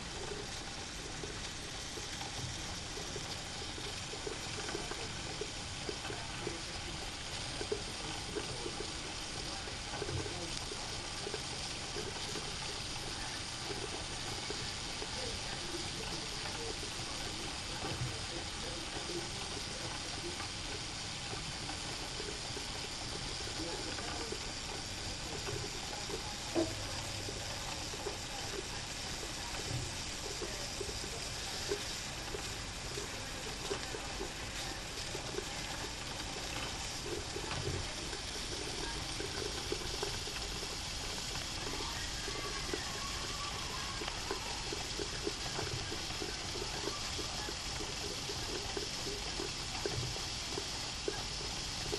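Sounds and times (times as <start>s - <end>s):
boiler bubbling: 0.0s - 51.9s
soft steam puffs: 0.0s - 51.9s
steam engine hissing: 0.0s - 51.9s.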